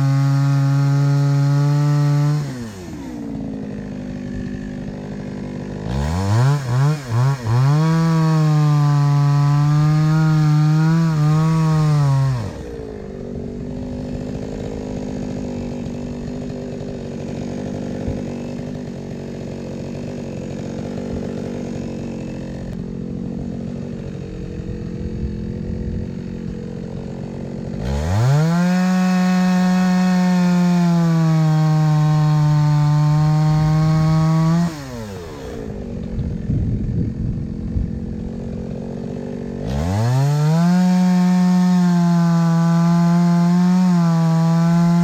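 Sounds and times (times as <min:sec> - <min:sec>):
chainsaw idling and revving: 0:00.0 - 0:45.0.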